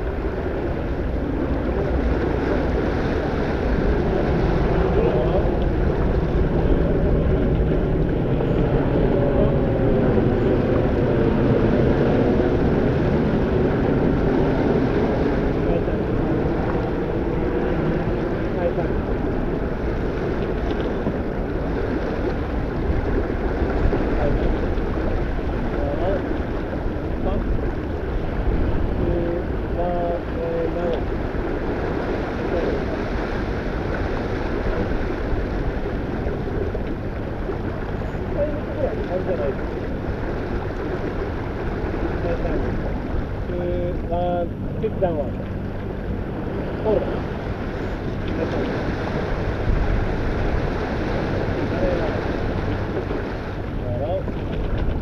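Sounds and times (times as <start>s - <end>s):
water rushing along hull: 0.0s - 55.0s
wind on microphone: 0.0s - 55.0s.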